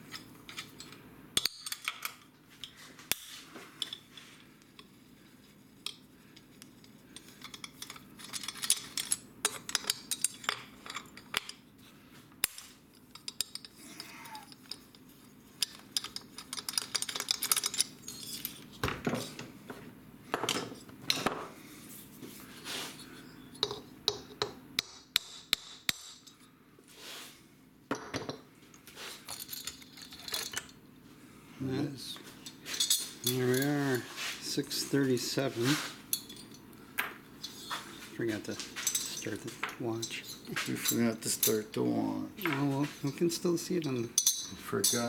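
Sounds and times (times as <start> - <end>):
metallic clinks and scrapes of tools: 0.0 - 19.5, 20.4 - 24.5, 27.9 - 30.8, 31.6 - 45.0.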